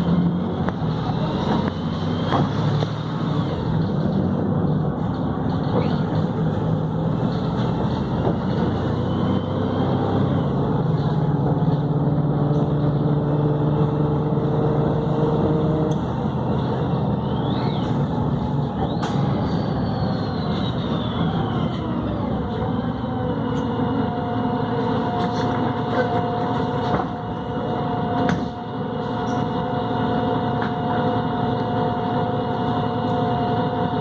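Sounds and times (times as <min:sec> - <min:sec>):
bus diesel engine: 0:00.0 - 0:34.0.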